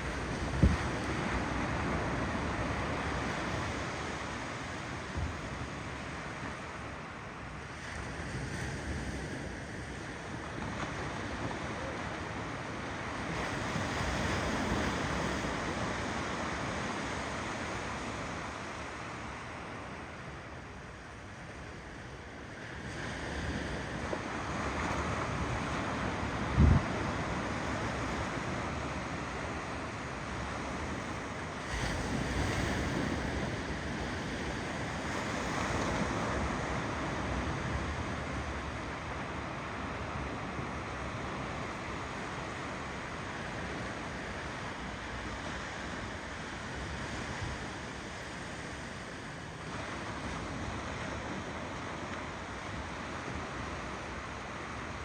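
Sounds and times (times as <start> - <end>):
ocean waves surf: 0.0 - 20.4, 21.0 - 55.0.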